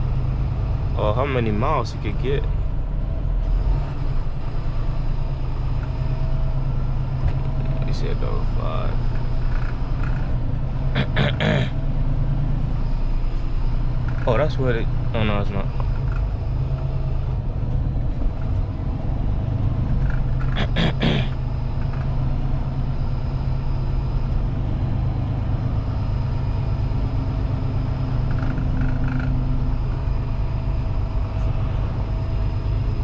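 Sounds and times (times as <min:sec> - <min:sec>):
truck engine droning: 0:00.0 - 0:33.0.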